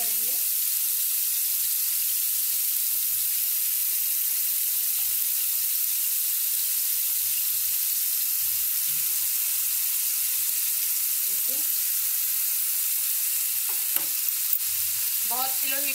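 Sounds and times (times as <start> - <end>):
chicken sizzling in frying oil: 0.0 - 15.9.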